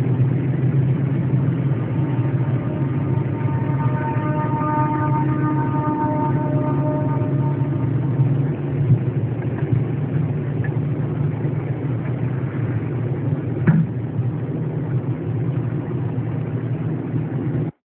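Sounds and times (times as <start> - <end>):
low rumble: 0.0 - 17.7.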